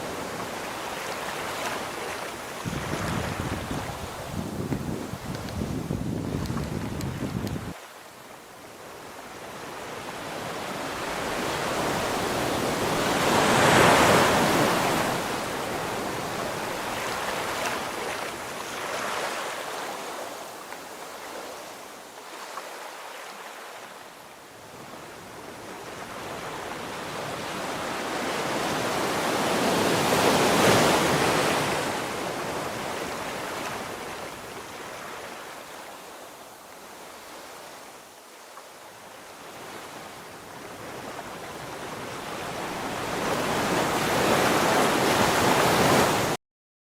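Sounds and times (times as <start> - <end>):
waves breaking on shore: 0.0 - 46.4.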